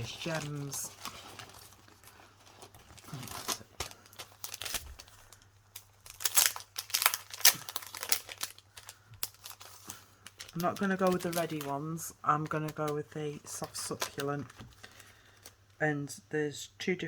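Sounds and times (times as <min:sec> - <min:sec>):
paper packaging crinkling: 0:00.0 - 0:15.8.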